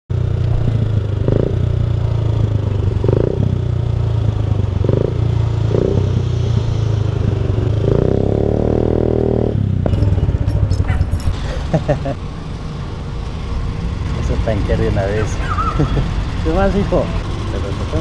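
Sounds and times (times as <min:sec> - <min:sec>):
motorcycle engine at low revs: 0:00.1 - 0:18.0.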